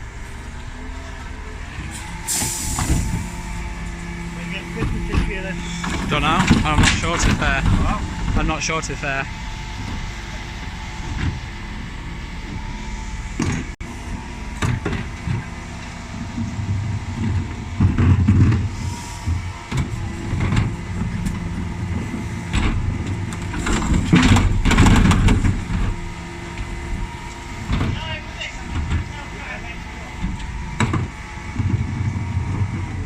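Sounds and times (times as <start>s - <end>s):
diesel truck engine running: 0.0s - 33.0s
wheelie bins clanking and banging: 0.0s - 33.0s.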